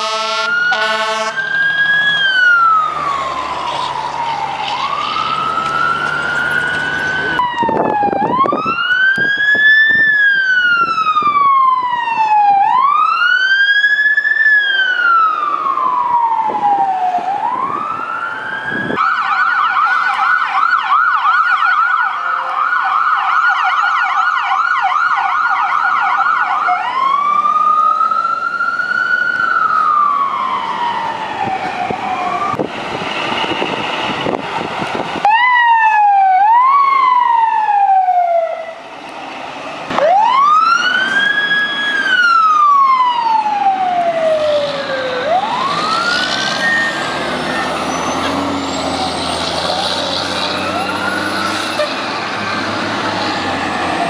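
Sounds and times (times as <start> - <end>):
emergency vehicle siren: 0.0 - 54.0.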